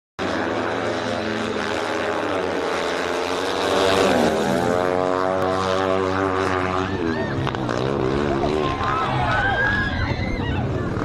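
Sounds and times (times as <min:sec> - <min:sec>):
motorcycle engines racing at high revs: 0:00.2 - 0:11.0.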